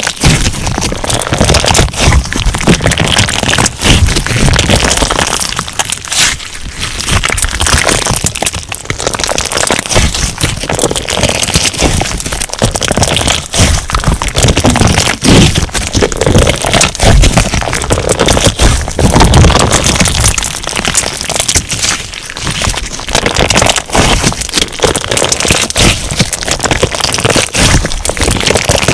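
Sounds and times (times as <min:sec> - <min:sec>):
slime crackling and popping: 0:00.0 - 0:28.9.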